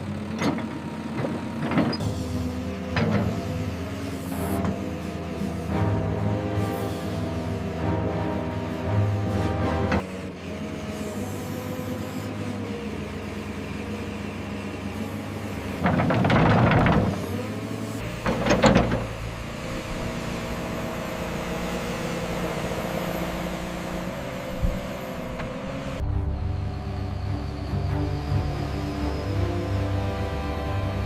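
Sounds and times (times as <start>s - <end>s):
diesel engine running: 0.0s - 31.0s
rough bursts of engine noise: 0.0s - 31.0s.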